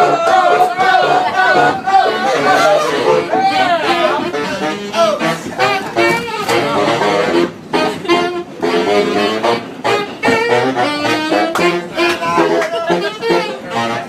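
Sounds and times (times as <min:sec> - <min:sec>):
saxophones playing jazz: 0:00.0 - 0:14.0.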